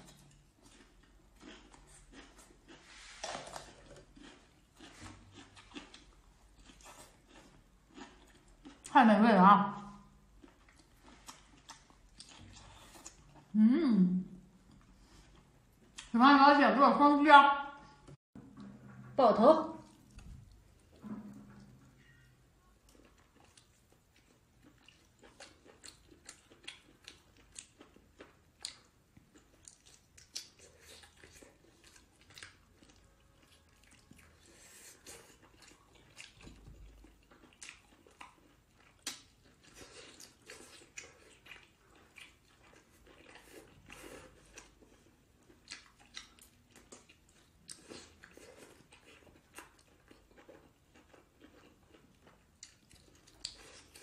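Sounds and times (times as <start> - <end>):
close chewing: 0.0 - 9.0, 9.9 - 13.6, 22.8 - 54.0.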